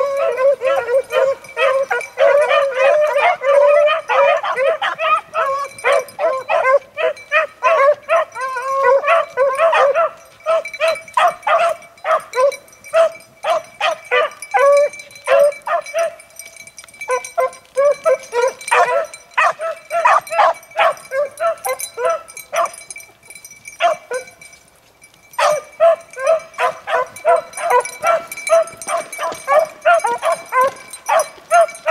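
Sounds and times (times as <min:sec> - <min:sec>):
hounds baying: 0:00.0 - 0:24.6, 0:25.3 - 0:31.9.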